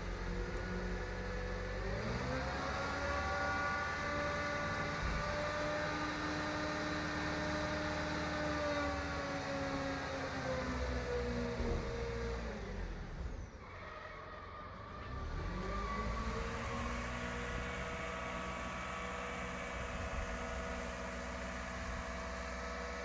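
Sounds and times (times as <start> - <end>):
diesel truck engine revving: 0.0 - 13.6, 14.8 - 23.0.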